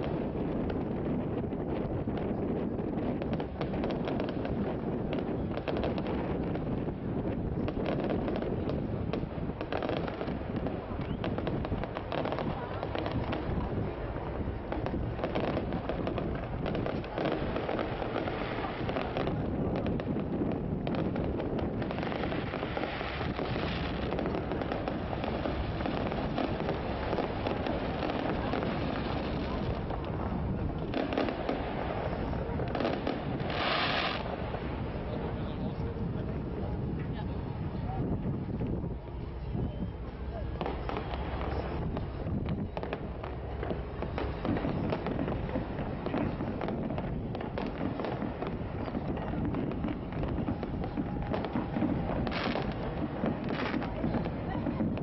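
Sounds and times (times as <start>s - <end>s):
distant fireworks bursting: 0.0s - 55.0s
wind buffeting microphone: 0.0s - 55.0s.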